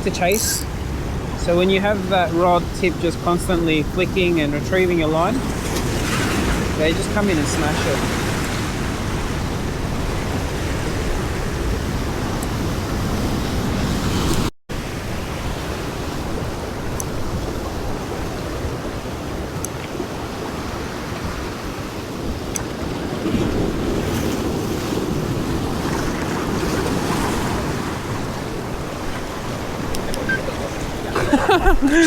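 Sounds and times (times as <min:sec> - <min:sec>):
surf washing against rocks: 0:04.4 - 0:32.0.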